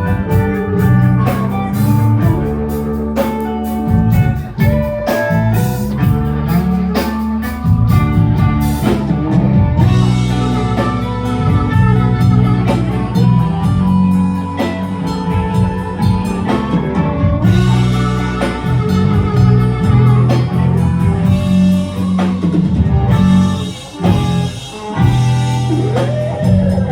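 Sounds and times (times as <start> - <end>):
blues band playing: 0.0 - 26.9.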